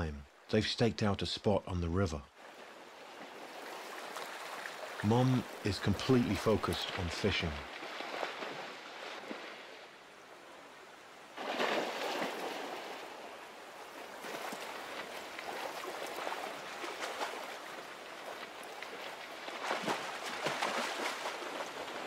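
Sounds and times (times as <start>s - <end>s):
heavy water splashing: 2.4s - 22.0s
stream rushing: 2.4s - 22.0s.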